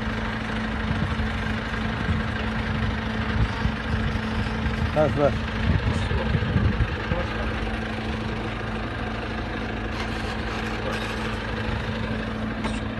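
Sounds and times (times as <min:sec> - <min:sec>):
drilling rig engine humming: 0:00.0 - 0:12.9.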